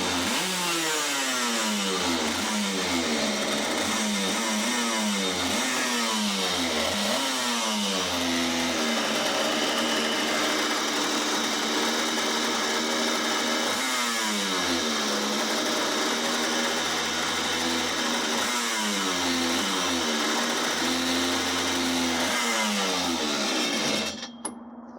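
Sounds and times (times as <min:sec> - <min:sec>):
two-stroke engine revving: 0:00.0 - 0:24.3.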